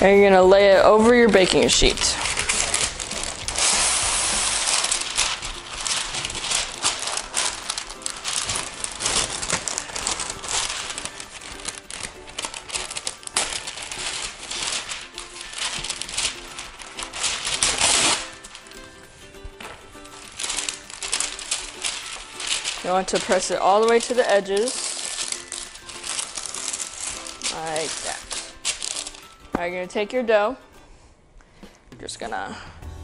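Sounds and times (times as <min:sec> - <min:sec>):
quiet background music: 0:00.0 - 0:33.0
parchment paper crinkling: 0:00.6 - 0:19.0, 0:19.6 - 0:29.7.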